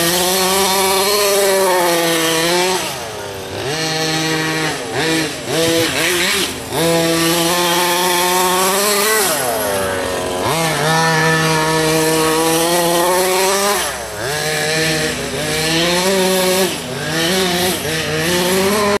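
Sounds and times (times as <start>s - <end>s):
toy car motor revving: 0.0s - 19.0s.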